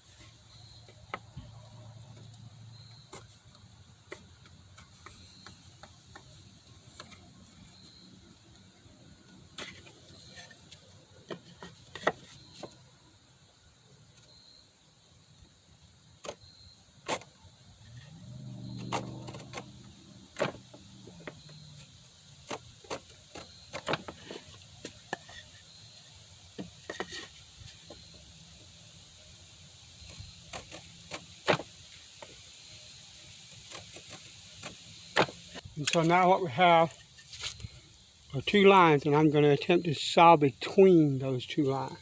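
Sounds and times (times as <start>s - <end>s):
hand tools and wood clicking: 0.0s - 13.0s, 16.2s - 28.8s, 29.9s - 38.8s.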